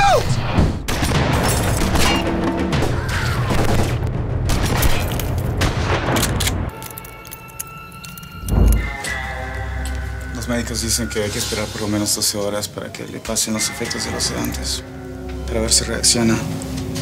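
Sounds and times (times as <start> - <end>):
film trailer music: 0.1 - 17.0.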